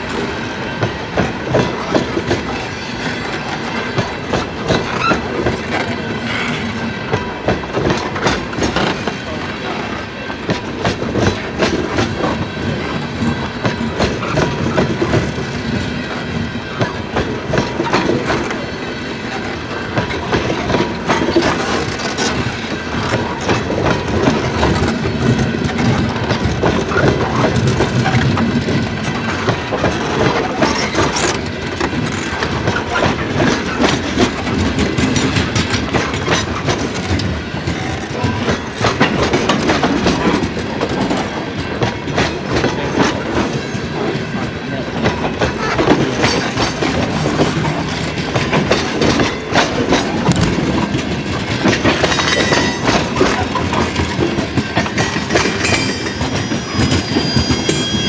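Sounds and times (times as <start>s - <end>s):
freight train rumble: 0.0s - 58.0s
wheels clacking over rail joints: 0.0s - 58.0s.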